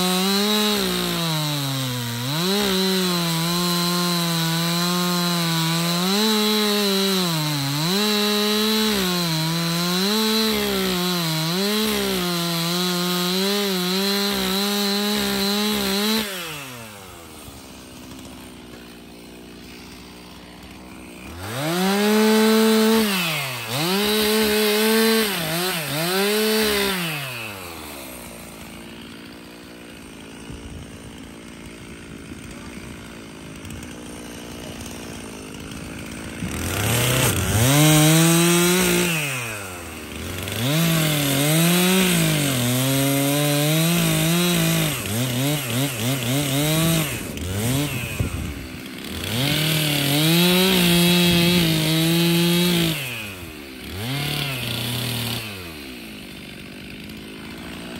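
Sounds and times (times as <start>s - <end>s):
chainsaw cutting boards: 0.0s - 57.9s.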